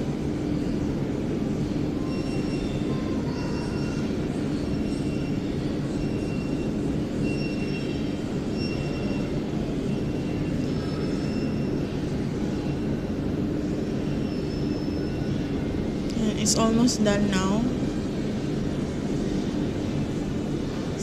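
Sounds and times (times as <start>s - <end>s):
constant hum: 0.0s - 21.0s.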